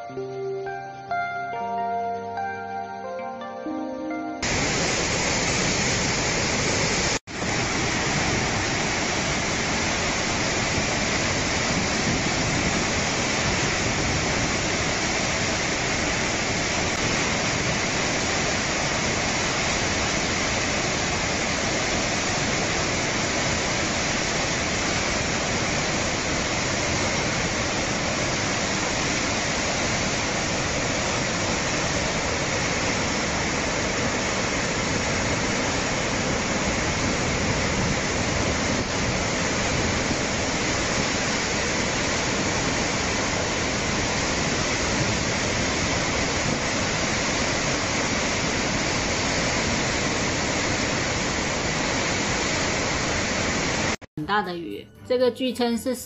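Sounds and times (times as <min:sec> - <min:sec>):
floodwater rushing: 0:04.4 - 0:54.0.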